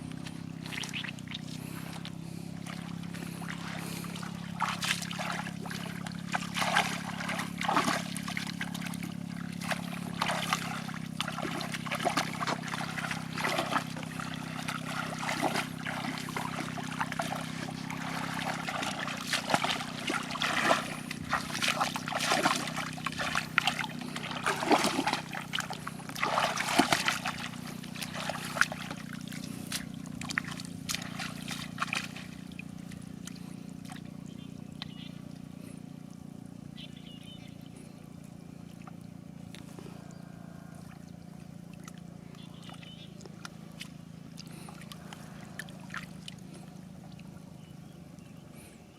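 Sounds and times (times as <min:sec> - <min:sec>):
water splashing and trickling: 0:00.0 - 0:36.8, 0:40.8 - 0:48.1
steady low hum: 0:00.0 - 0:48.9.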